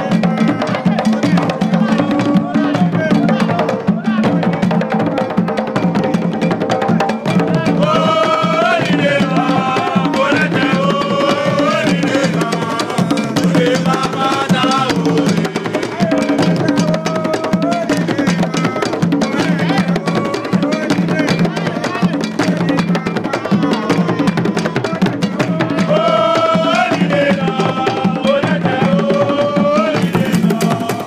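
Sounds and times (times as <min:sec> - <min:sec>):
hand drums playing rapid strokes: 0:00.0 - 0:31.0
men's voices singing: 0:00.0 - 0:31.0.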